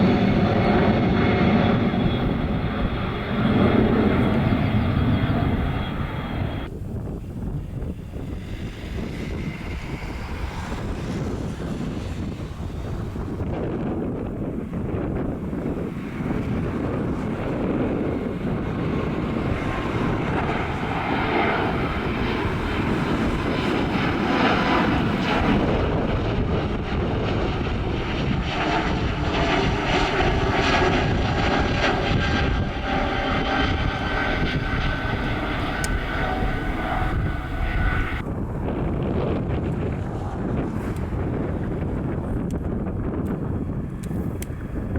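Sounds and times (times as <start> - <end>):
jet engines whining and rumbling: 0.0 - 44.9
wind buffeting microphone: 0.0 - 44.9.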